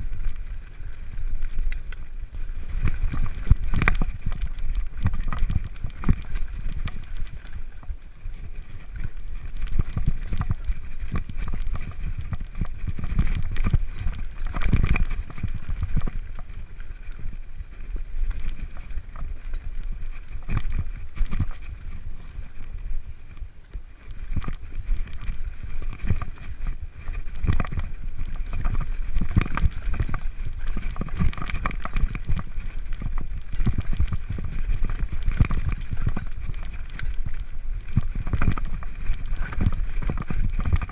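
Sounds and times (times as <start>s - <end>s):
bike rattling and clattering: 0.0s - 40.9s
constant low rumble: 0.0s - 40.9s
wheels knocking on rocks: 0.0s - 40.9s.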